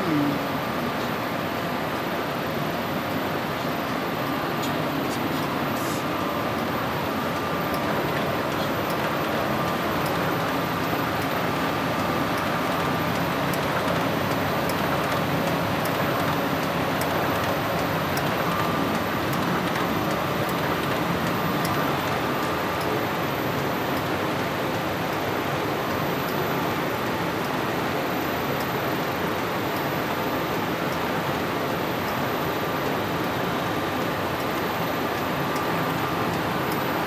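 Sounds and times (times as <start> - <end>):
printing press hum and rumble: 0.0 - 37.0
thin mechanical whine: 0.0 - 37.0.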